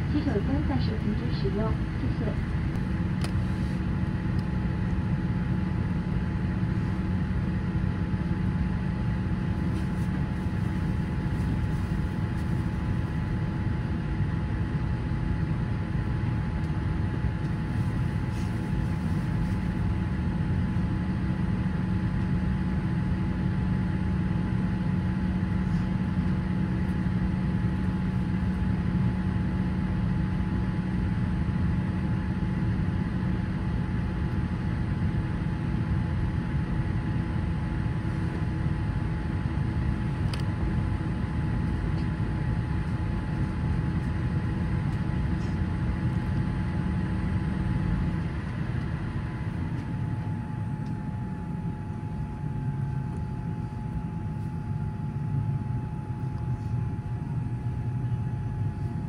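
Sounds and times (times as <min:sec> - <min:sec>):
airliner cabin hum with whines: 0:00.0 - 0:59.0.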